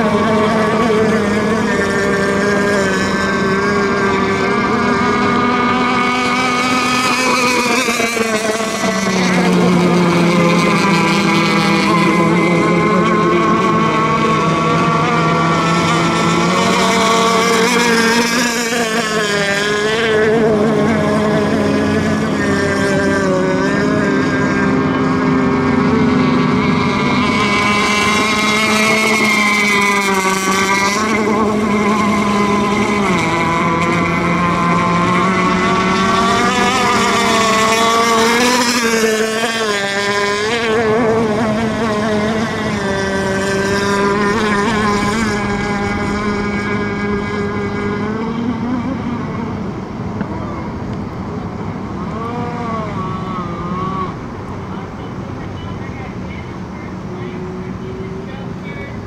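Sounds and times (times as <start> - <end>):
model boat engines revving: 0.0 - 59.0.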